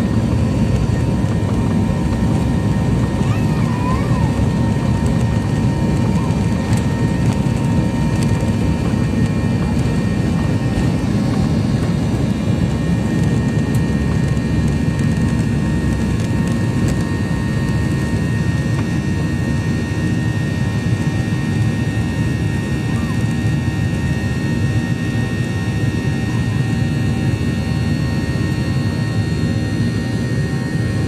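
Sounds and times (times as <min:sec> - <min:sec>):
airplane engines rumbling: 0:00.0 - 0:31.0
high engine whine: 0:00.0 - 0:31.0.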